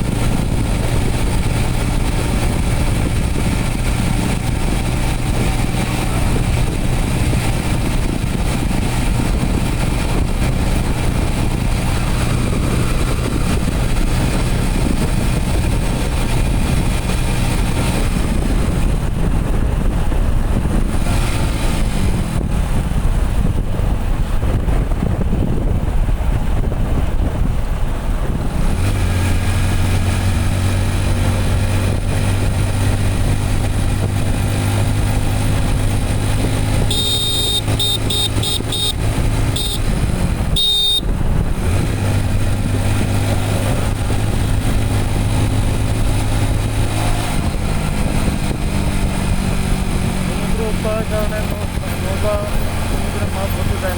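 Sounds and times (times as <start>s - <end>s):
motorcycle engine running: 0.0s - 53.9s
road and wind noise: 0.0s - 53.9s.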